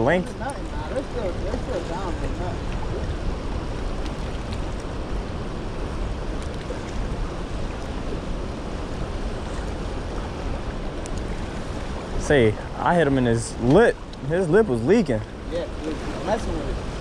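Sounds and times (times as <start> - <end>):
fast-flowing river rushing: 0.0 - 14.1
wind rumble on microphone: 0.0 - 17.0.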